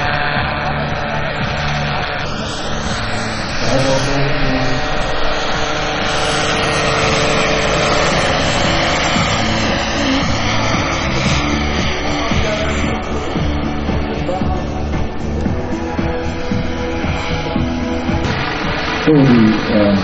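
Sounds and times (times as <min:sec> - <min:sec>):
model helicopters flying past: 0:00.0 - 0:20.0.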